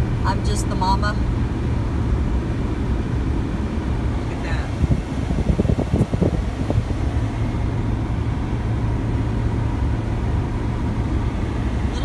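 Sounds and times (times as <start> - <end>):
car cabin road and engine noise: 0.0 - 12.0.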